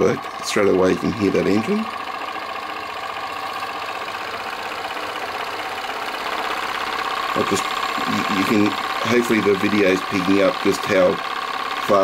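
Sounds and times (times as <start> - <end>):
stirling engine clattering: 0.0 - 12.0.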